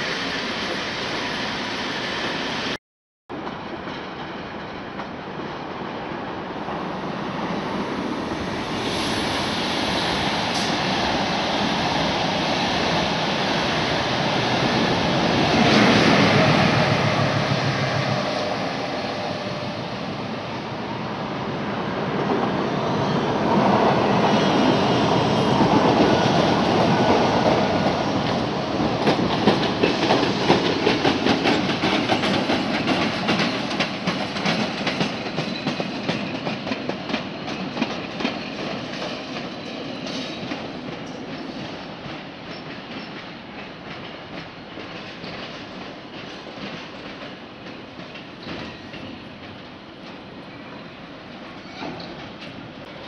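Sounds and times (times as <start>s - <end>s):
train rumbling past: 0.0s - 53.0s.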